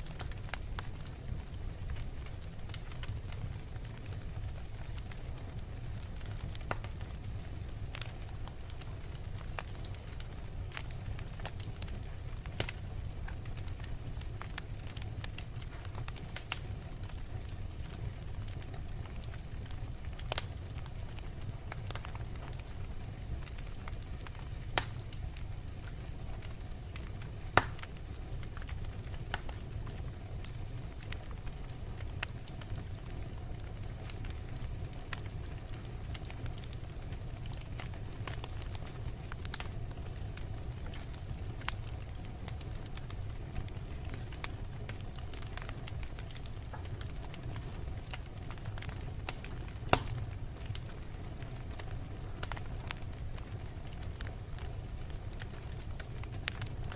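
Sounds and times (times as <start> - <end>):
burning logs crackling and popping: 0.0 - 56.9
low rumble of flames: 0.0 - 56.9.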